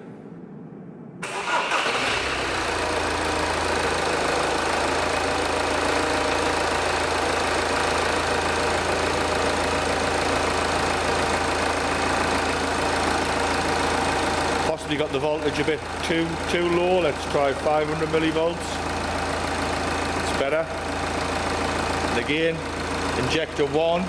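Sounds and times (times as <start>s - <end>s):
diesel engine idling: 1.3s - 24.0s.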